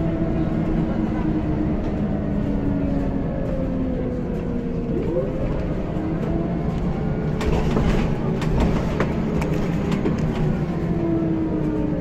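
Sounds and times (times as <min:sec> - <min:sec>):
bus body rattling: 0:00.0 - 0:12.0
bus diesel engine: 0:00.0 - 0:12.0
road noise: 0:00.0 - 0:12.0.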